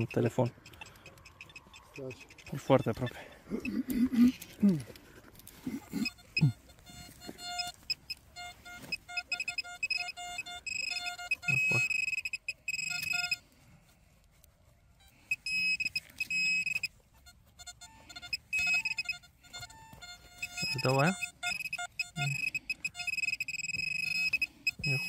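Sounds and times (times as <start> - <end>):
metal detector beeps: 0.0 - 4.4, 5.6 - 13.5, 15.0 - 17.0, 17.6 - 25.0.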